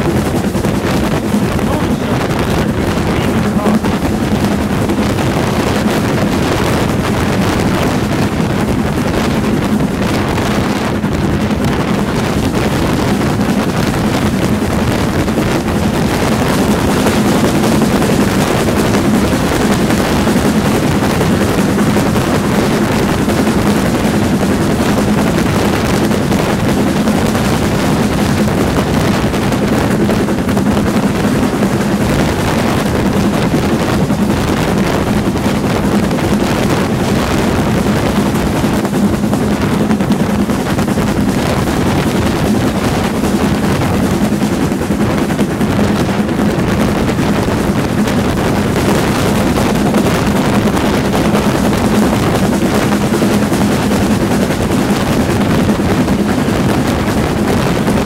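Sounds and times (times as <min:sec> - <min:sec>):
steam locomotive working: 0:00.0 - 0:58.0
wheels on rail: 0:00.0 - 0:58.0
wind buffeting microphone: 0:00.0 - 0:58.0.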